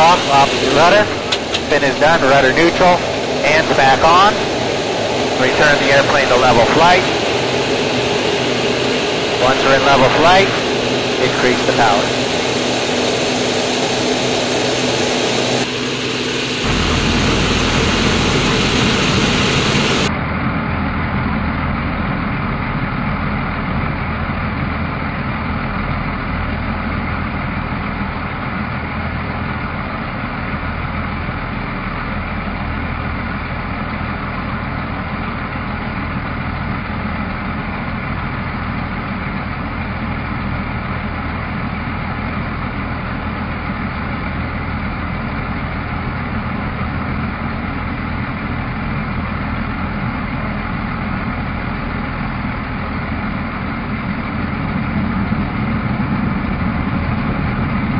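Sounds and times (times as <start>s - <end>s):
airplane engine and propeller: 0.0s - 57.9s.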